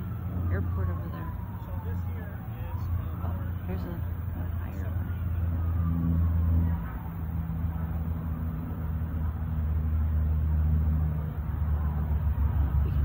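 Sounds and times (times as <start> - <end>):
aircraft engines droning: 0.0 - 13.0.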